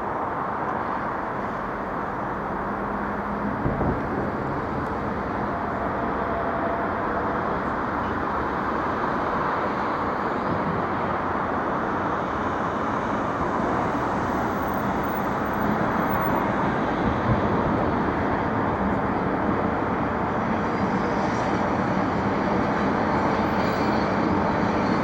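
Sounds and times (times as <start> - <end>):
road traffic rumble: 0.0 - 23.6.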